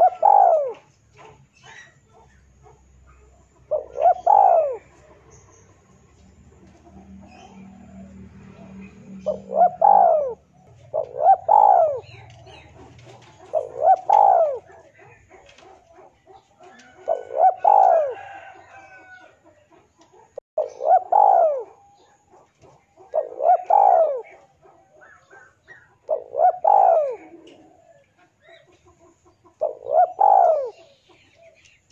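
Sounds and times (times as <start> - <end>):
dove cooing: 0.0 - 31.9.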